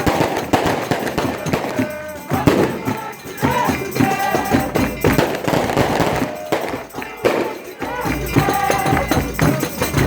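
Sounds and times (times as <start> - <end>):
tambourine and drum rhythm: 0.0 - 10.0.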